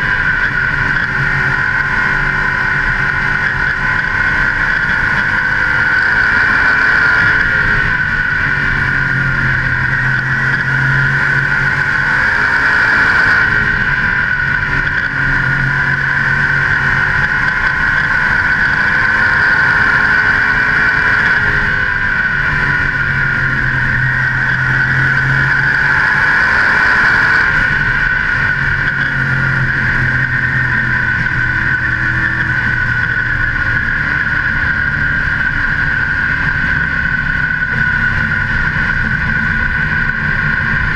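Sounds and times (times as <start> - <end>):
race car engine at speed: 0.0 - 40.9.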